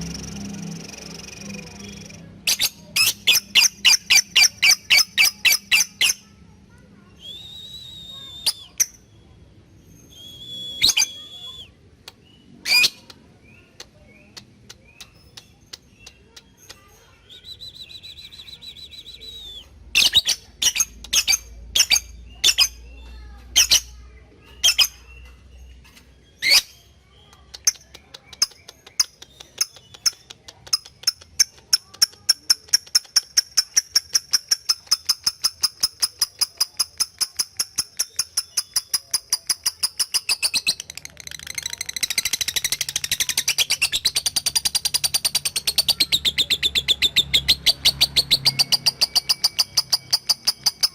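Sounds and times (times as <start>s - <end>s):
lovebird chirping and ticking: 0.0s - 7.4s, 8.1s - 9.1s, 9.8s - 50.9s.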